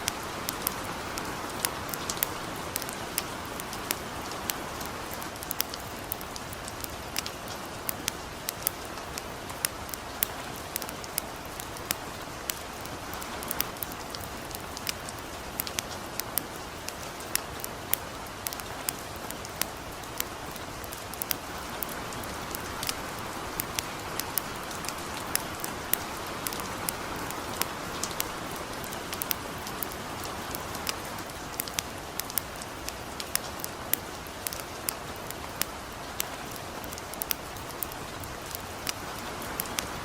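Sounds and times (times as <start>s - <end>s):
campfire crackling: 0.0s - 40.0s
light rain hissing: 0.0s - 40.0s.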